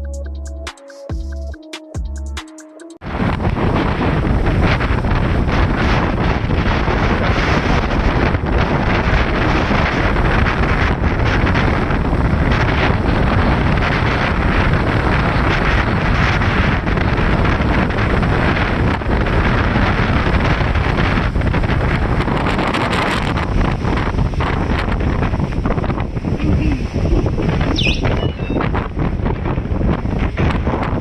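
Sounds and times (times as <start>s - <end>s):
strong wind buffeting microphone: 3.0s - 31.0s.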